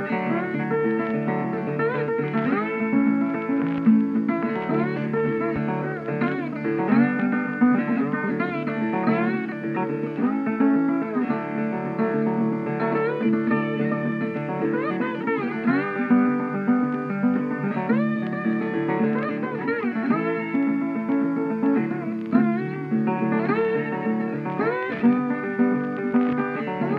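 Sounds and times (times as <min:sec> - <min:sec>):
plucked guitar music: 0:00.0 - 0:26.9.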